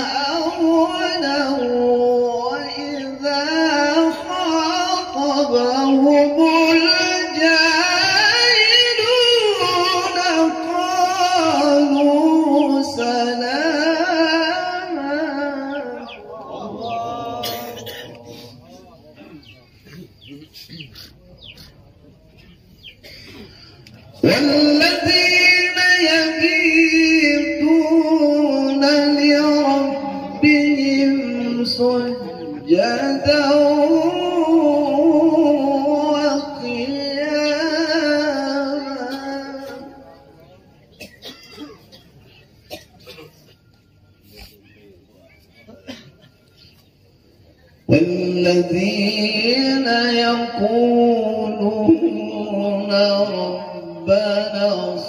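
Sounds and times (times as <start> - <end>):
man reciting melodically: 0.0 - 55.0.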